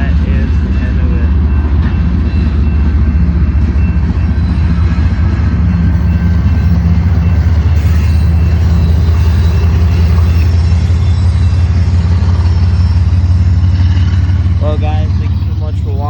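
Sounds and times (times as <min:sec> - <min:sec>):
train passing rumble: 0:00.0 - 0:16.0.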